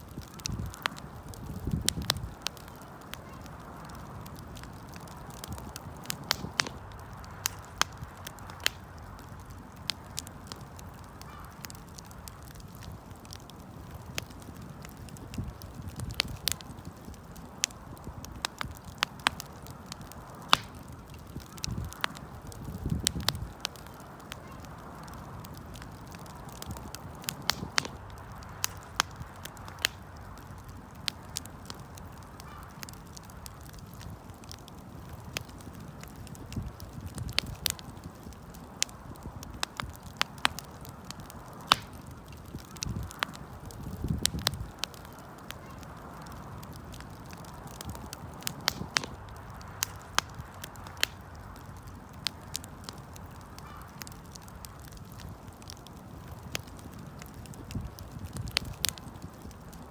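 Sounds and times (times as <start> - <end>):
campfire pops and snaps: 0.0 - 59.9
low rush of burning fire: 0.0 - 59.9.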